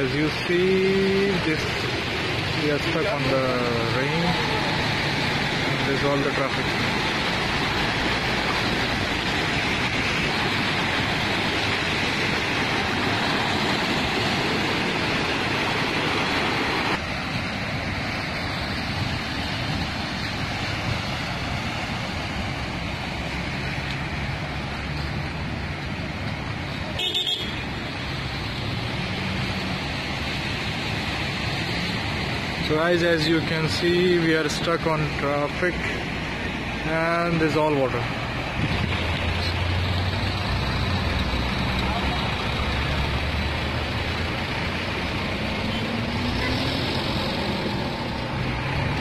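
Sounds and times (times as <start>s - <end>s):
car engines running: 0.0s - 49.0s
tyres swishing through water: 0.0s - 49.0s.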